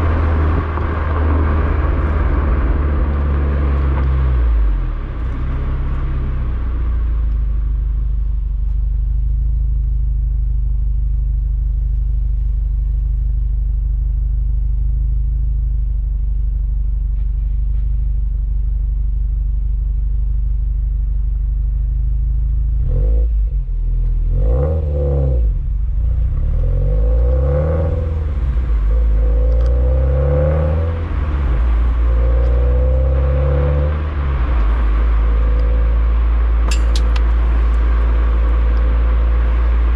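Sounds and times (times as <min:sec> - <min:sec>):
car exhaust droning and revving: 0:00.0 - 0:39.9.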